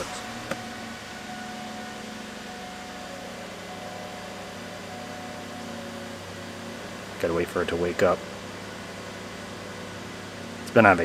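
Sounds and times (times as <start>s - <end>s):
car engine idling: 0.0s - 11.0s
climate fan running: 0.0s - 11.0s.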